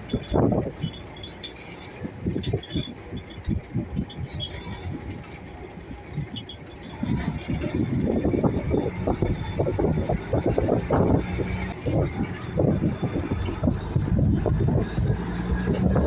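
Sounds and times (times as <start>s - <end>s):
cab rattles: 0.0s - 16.0s
truck engine rumbling: 0.0s - 16.0s.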